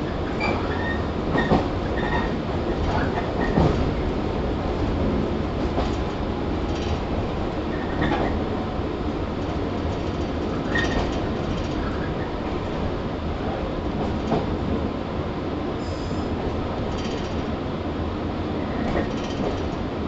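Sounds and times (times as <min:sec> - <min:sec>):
train wheels and motors rumbling: 0:00.0 - 0:20.0.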